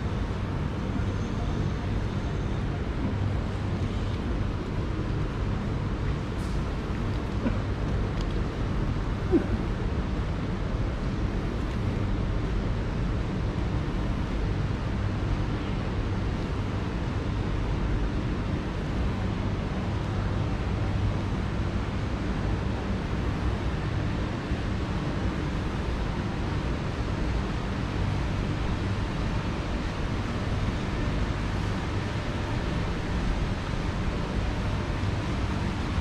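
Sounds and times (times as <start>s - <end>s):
faint continuous hum: 0.0s - 36.0s
low city rumble: 0.0s - 36.0s.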